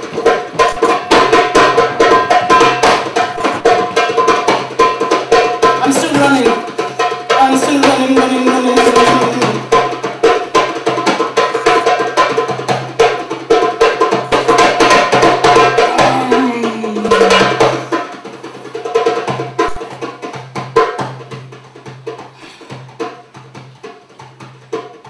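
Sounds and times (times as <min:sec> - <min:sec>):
fast hand-drumming: 0:00.0 - 0:25.0.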